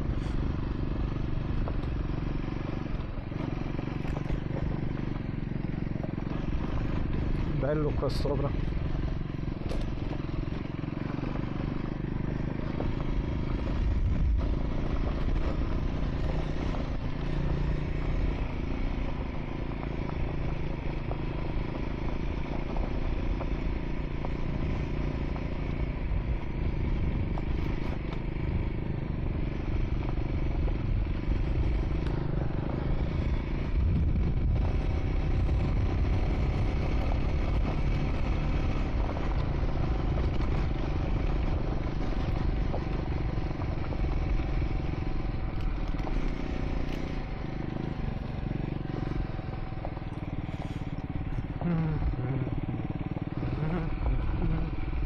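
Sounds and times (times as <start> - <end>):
motorcycle engine running: 0.0 - 55.0
tyres on gravel: 0.0 - 55.0.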